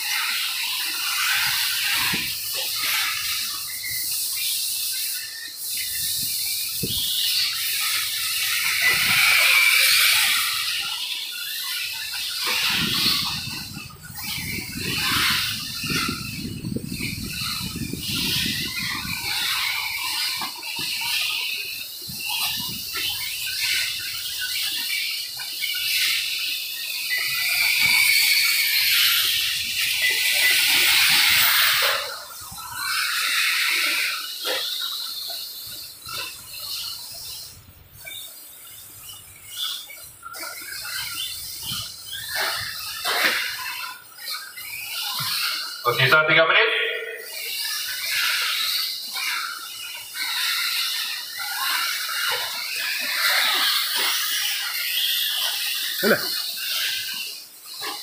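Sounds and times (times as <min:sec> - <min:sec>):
rc car electric motor whine: 0:00.0 - 0:45.9, 0:47.2 - 0:58.0.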